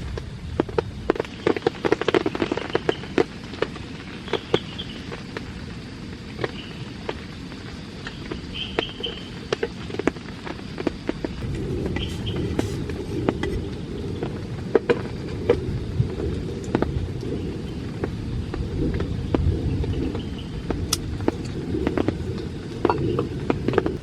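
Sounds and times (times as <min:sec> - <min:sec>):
large raindrops tapping on surface: 0:00.0 - 0:24.0
steady hiss of rainfall: 0:00.0 - 0:24.0.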